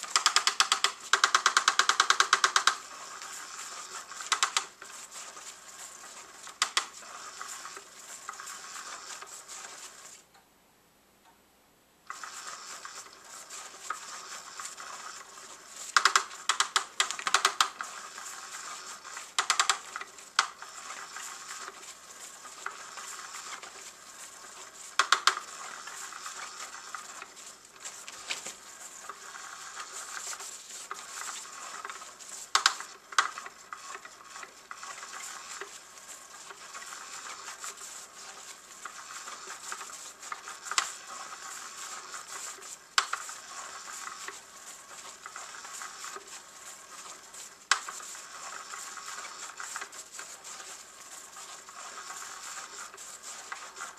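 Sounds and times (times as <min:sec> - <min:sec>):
toy motor whirring: 0:00.0 - 0:10.3, 0:12.1 - 0:53.9
wand scratching against fabric: 0:00.0 - 0:10.3, 0:12.1 - 0:53.9.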